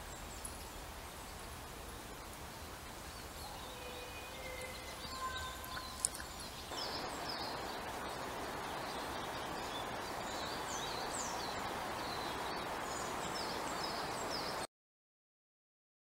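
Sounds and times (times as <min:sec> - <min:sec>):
small songbirds chirping: 0:00.0 - 0:14.7
steady background hiss: 0:00.0 - 0:14.7.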